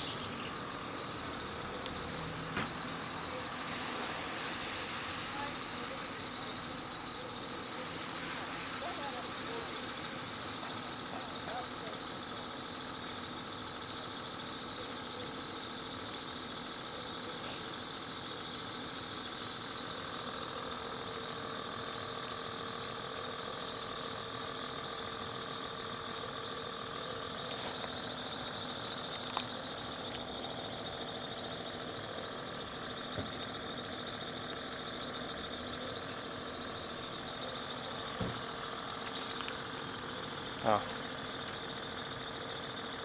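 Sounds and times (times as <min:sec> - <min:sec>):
mechanical hum with held tones: 0:00.0 - 0:43.0.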